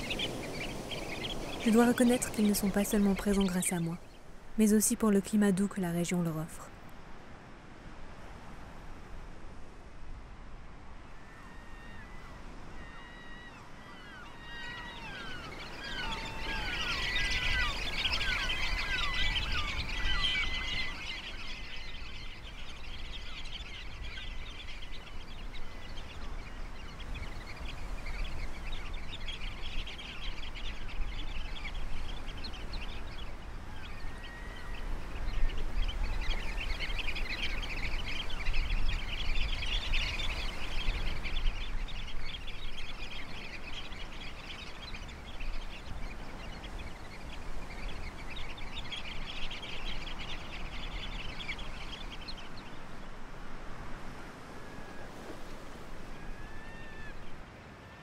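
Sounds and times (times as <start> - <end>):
shorebirds chirping: 0.0 - 6.8, 11.3 - 57.8.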